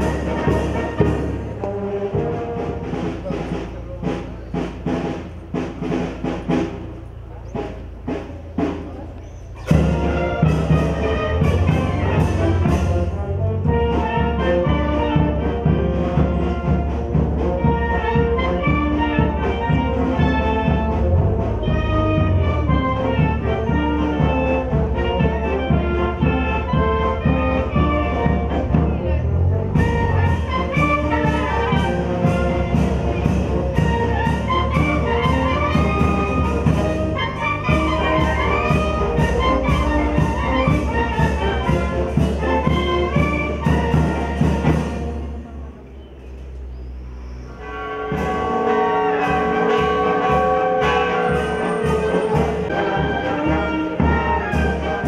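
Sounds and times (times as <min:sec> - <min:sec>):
drum beats: 0:00.0 - 0:45.5, 0:47.6 - 0:55.0
brass band playing: 0:00.0 - 0:46.0, 0:47.0 - 0:55.0.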